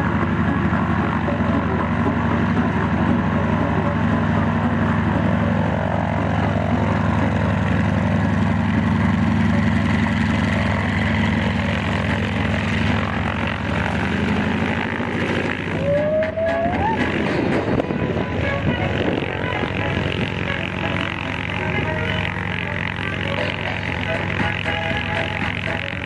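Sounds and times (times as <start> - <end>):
propeller aircraft engine: 0.0 - 26.0.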